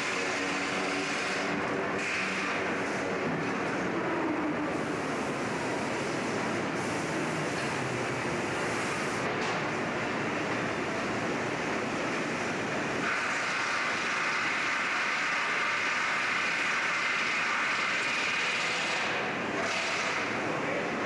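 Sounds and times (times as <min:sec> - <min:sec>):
shop machinery noise: 0:00.0 - 0:21.0.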